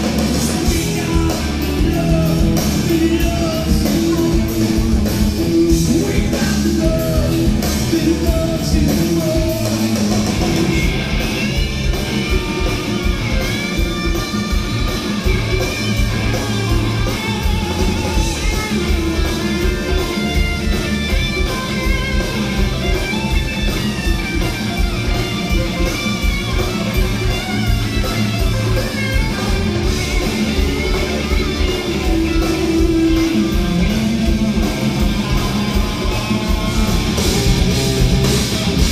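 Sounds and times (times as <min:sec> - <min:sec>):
electric guitars: 0:00.0 - 0:38.9
steady drum beat: 0:00.0 - 0:38.9.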